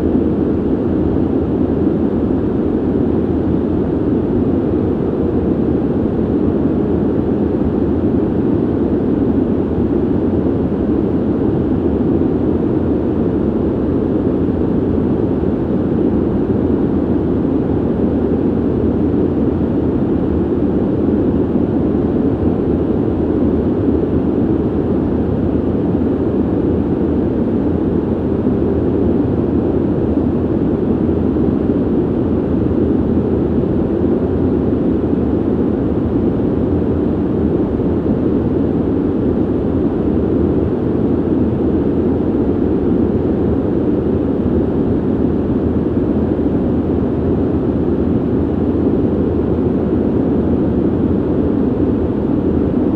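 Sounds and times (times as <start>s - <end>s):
ventilation blowing air: 0.0s - 52.9s.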